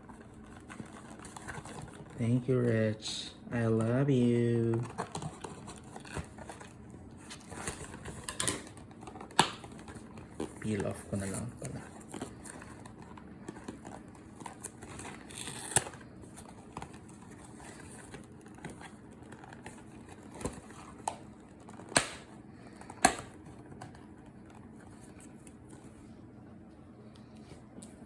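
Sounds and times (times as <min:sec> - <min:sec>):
plastic wrapping crinkling: 0:00.0 - 0:02.6, 0:04.1 - 0:25.9.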